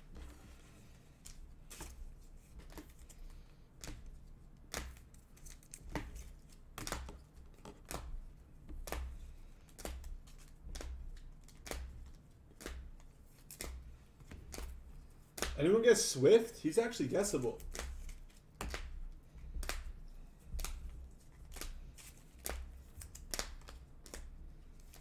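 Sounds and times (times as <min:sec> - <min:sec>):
cards tapping and sliding: 0:00.1 - 0:15.6, 0:17.1 - 0:25.0.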